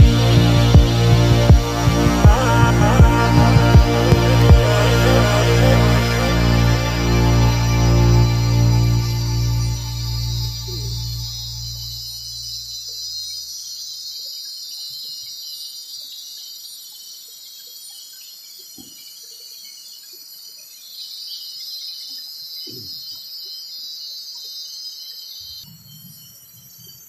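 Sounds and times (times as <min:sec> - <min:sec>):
forest insects chorus: 0:00.0 - 0:27.0.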